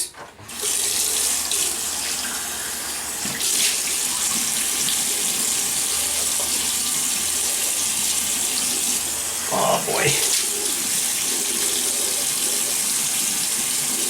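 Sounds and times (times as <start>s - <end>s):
tap water running into sink: 0.4s - 9.4s, 10.2s - 14.0s.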